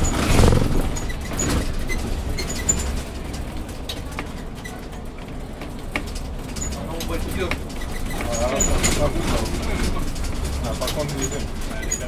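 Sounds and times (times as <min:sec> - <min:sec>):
bus engine rumble: 0:00.0 - 0:12.0
light rattles and clicks: 0:00.0 - 0:12.0.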